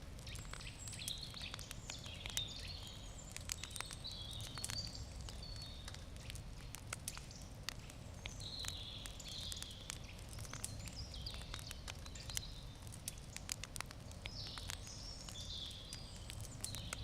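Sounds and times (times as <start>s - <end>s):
campfire wood crackling and popping: 0.0s - 17.0s
small birds chirping: 0.2s - 17.0s.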